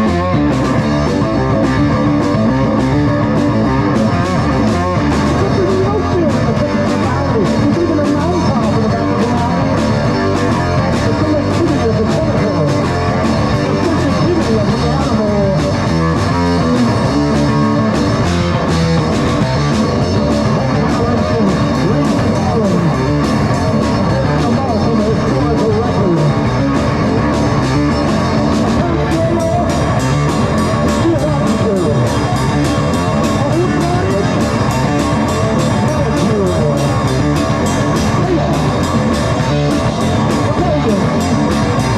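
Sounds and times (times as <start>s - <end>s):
drum beat: 0.0s - 41.9s
electric guitar: 0.0s - 41.9s.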